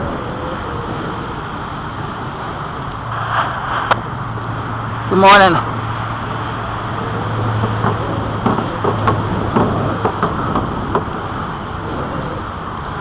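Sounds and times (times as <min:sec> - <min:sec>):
bicycle riding hum: 0:00.0 - 0:13.0.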